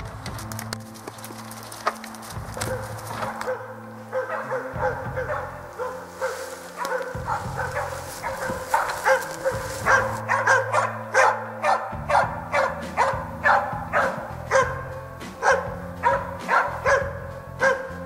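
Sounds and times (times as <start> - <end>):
background music: 0.0 - 18.0
dog barking: 2.6 - 18.0.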